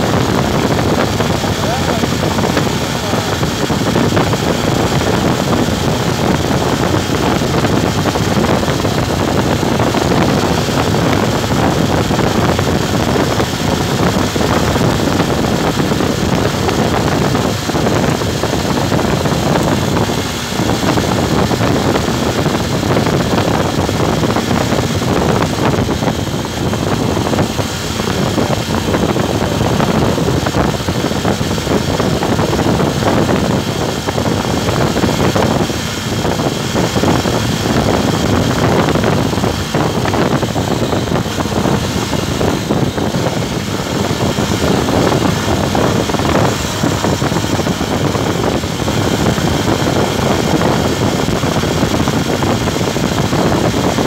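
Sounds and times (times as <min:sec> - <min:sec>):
motorcycle engine and road noise: 0:00.0 - 0:54.0
wind rushing over microphone: 0:00.0 - 0:54.0.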